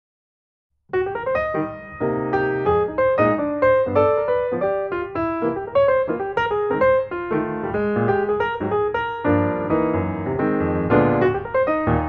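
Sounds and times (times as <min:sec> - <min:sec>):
piano music: 0:00.9 - 0:12.0.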